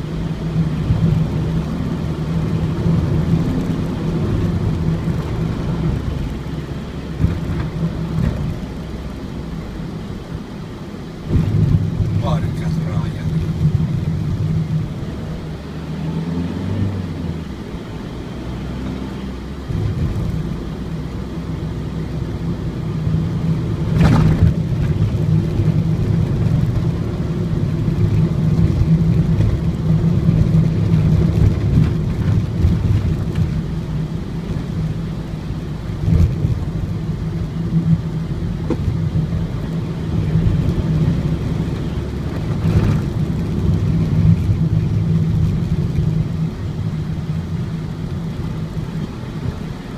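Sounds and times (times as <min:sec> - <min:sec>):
road rumble: 0:00.0 - 0:49.9
van engine drone: 0:00.0 - 0:49.9.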